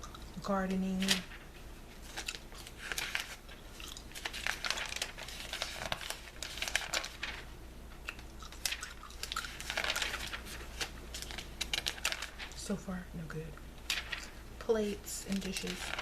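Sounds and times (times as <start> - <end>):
magazine pages rustling: 0.6 - 7.5, 8.1 - 12.8, 13.8 - 16.0.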